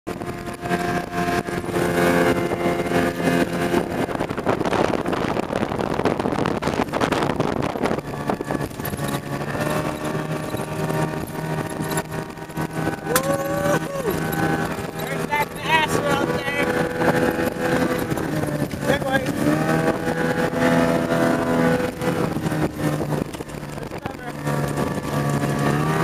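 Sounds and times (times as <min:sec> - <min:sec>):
outboard motor running: 0:00.1 - 0:26.0
rush of wind and water: 0:00.1 - 0:26.0.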